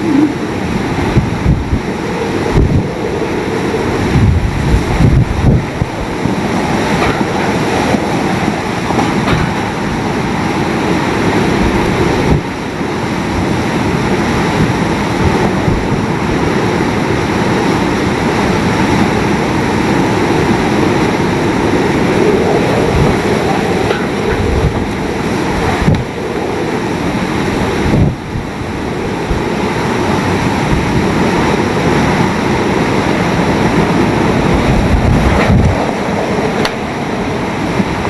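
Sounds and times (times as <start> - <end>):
strong wind on microphone: 0.0 - 38.0.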